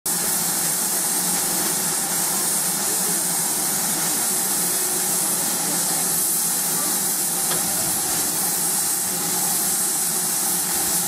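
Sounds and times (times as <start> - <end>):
steam locomotive hissing steam: 0.1 - 11.0.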